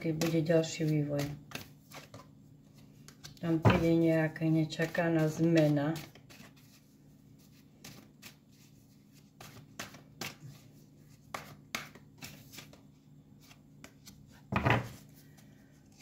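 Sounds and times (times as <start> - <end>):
cards being shuffled: 0.2 - 3.6, 4.7 - 16.0.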